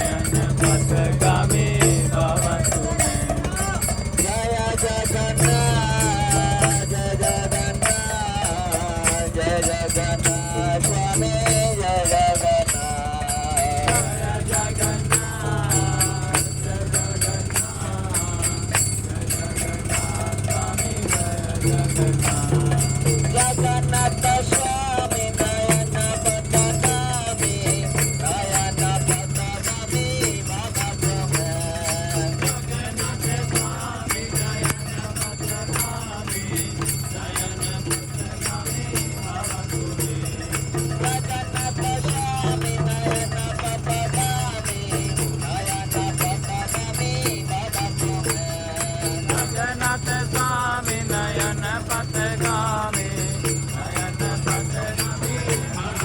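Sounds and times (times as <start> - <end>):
hand cymbals clashing: 0.0 - 56.0
jingling percussion: 0.0 - 56.0
low drone: 0.0 - 56.0
voices singing devotional melody: 0.0 - 56.0.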